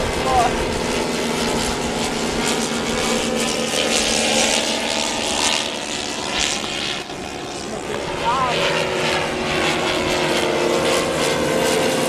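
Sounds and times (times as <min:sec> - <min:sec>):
model airplane engine and propeller: 0:00.0 - 0:12.0
wind buffeting microphone: 0:00.0 - 0:12.0.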